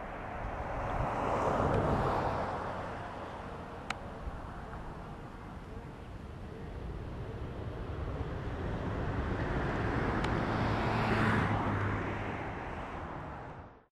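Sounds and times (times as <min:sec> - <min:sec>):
vehicle passing by: 0:00.0 - 0:13.9.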